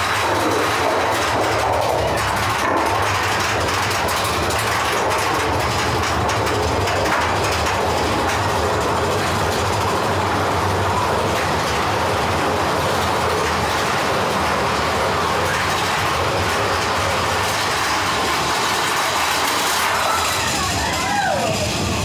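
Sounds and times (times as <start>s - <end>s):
roller coaster running on track: 0.0s - 22.0s.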